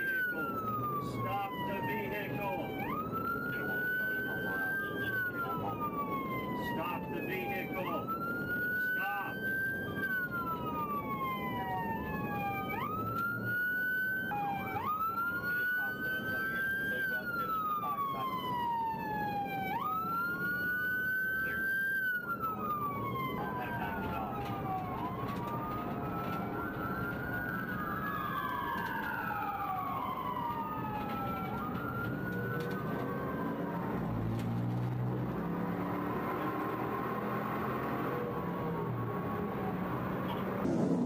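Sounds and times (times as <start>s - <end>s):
car road and engine noise: 0.0s - 41.0s
police sirens wailing: 0.0s - 41.0s.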